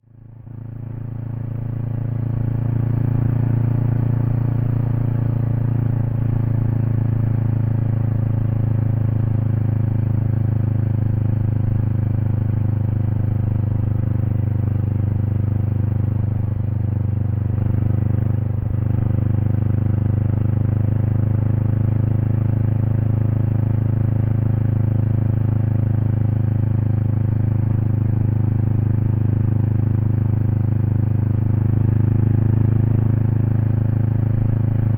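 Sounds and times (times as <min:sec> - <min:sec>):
motorcycle exhaust running steadily: 0:00.0 - 0:34.9.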